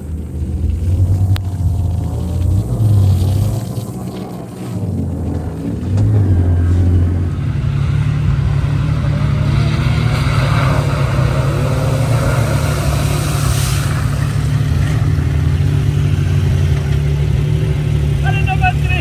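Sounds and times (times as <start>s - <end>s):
utility vehicle engine running: 0.0s - 19.0s.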